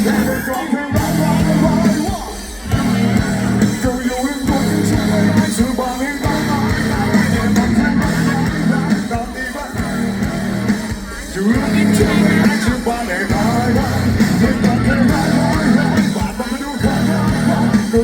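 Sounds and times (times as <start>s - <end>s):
bass guitar: 0.0s - 18.0s
drums: 0.0s - 18.0s
electric guitar: 0.0s - 18.0s
person singing: 0.0s - 18.0s.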